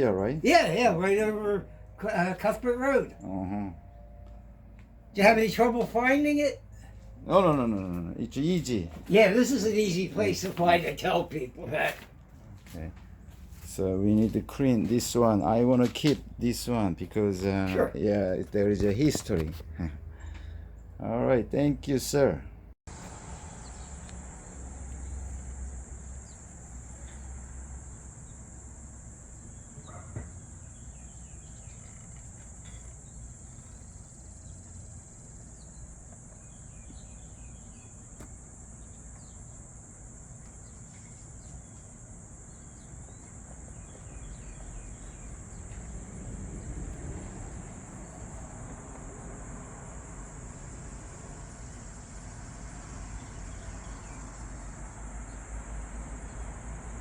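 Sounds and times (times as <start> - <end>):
crickets chirping chorus: 5.2 - 12.0, 12.8 - 57.0.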